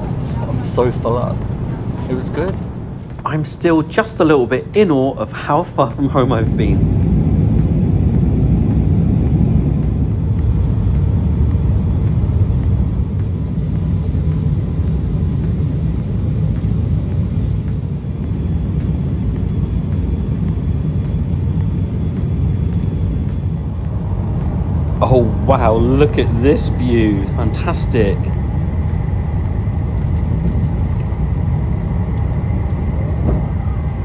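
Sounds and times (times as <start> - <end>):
airflow and engine rumble: 0.0 - 34.0
faint steady hum: 0.0 - 34.0.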